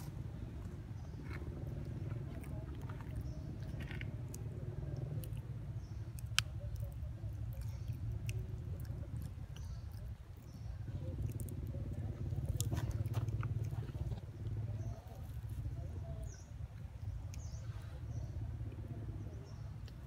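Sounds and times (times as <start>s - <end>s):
monkey chewing and cracking food: 0.0s - 17.5s
low rumble: 0.0s - 20.0s.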